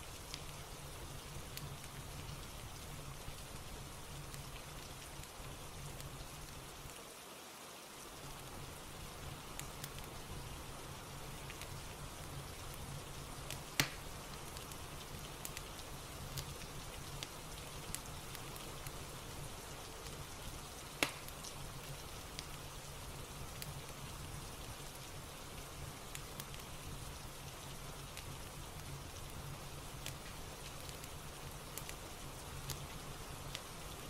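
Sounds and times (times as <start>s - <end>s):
wood fire crackling and popping: 0.0s - 7.0s, 8.1s - 34.0s
steady rain: 0.0s - 34.0s.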